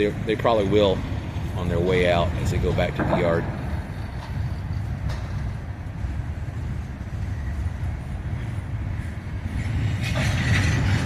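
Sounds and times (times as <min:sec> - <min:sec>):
freight train rumbling by: 0:00.0 - 0:11.0.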